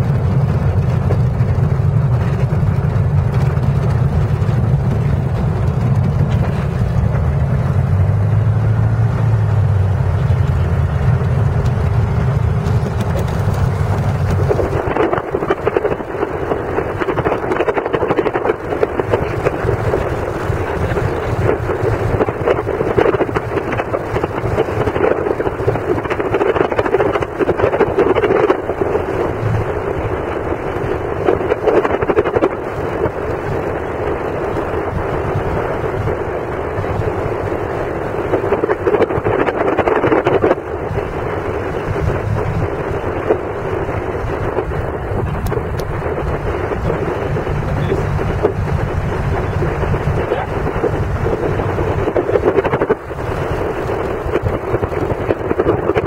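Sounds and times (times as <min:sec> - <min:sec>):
propeller plane engine running: 0:00.0 - 0:56.0.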